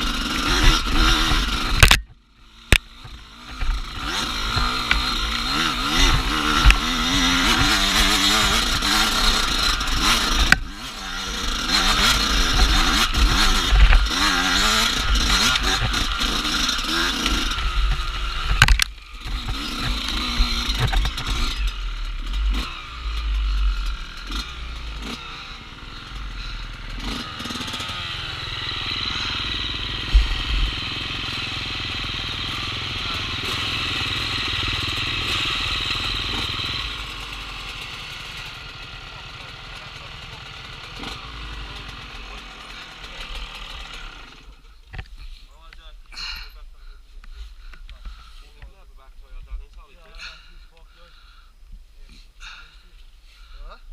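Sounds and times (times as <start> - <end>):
dirt bike engine revving: 0.0 - 51.5.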